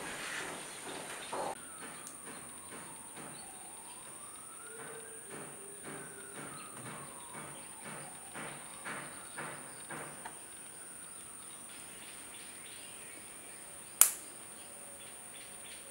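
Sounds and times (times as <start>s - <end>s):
faint siren wailing: 0.0s - 15.9s.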